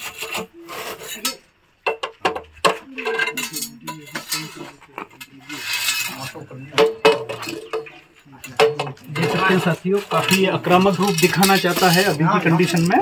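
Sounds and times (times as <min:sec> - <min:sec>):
metal objects clinking: 0:00.0 - 0:13.0
background voices: 0:02.2 - 0:13.0.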